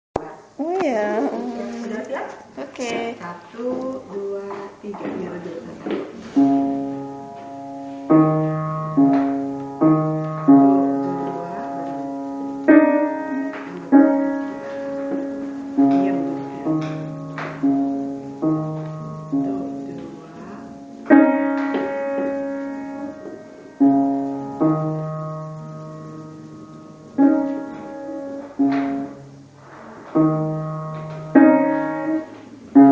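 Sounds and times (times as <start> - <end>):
piano playing slow chords: 6.2 - 32.9.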